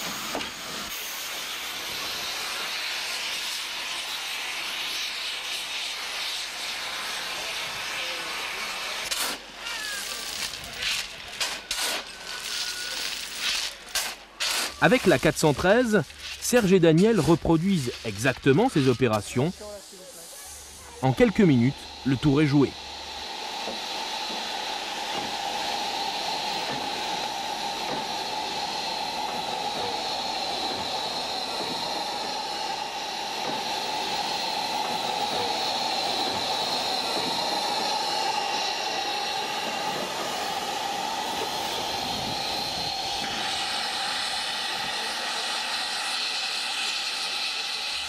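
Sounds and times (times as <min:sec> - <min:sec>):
steam locomotive hissing: 0:00.0 - 0:48.0.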